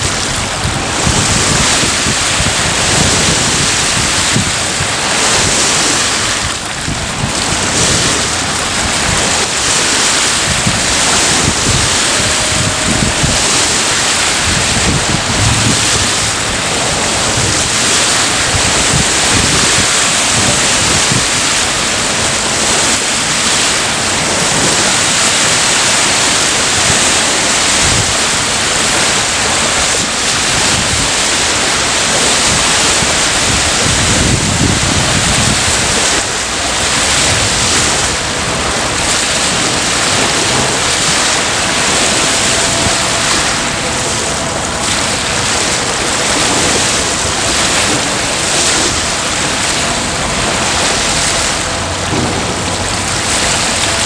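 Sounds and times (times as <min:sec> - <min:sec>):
waves rushing: 0:00.0 - 0:54.0
wind on microphone: 0:00.0 - 0:54.0.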